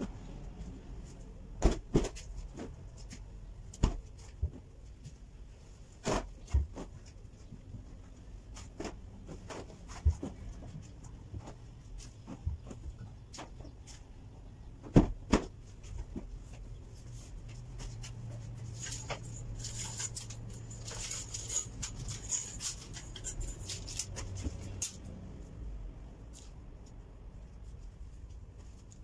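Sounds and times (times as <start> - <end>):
clothes rustling and clattering: 0.0 - 25.5.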